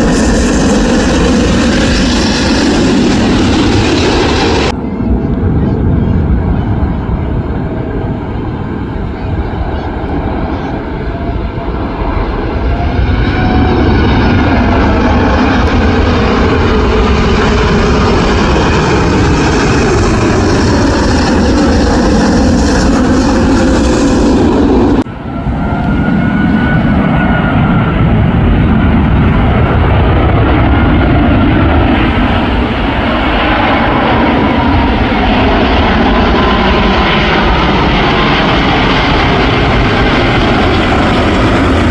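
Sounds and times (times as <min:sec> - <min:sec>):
jet airliner passing overhead: 0:00.0 - 0:41.9.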